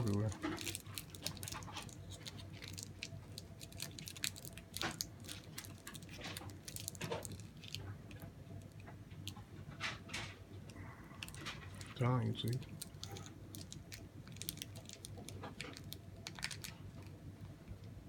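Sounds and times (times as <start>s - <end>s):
plastic packet crinkling: 0.0s - 9.4s, 11.2s - 17.2s.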